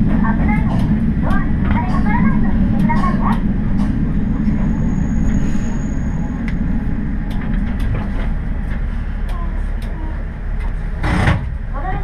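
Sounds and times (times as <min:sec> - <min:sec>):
diesel railcar rumble: 0:00.0 - 0:12.0.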